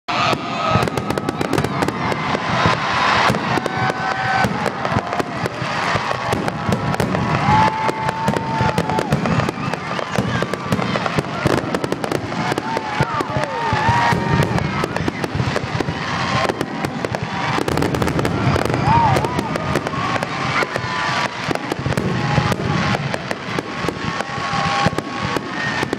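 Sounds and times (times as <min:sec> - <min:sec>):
fireworks bangs and crackles: 0:00.1 - 0:25.9
whistling fireworks: 0:00.1 - 0:25.9.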